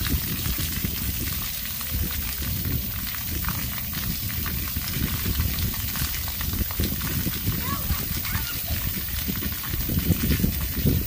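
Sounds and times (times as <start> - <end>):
fountain jets splashing on pavement: 0.0 - 11.0.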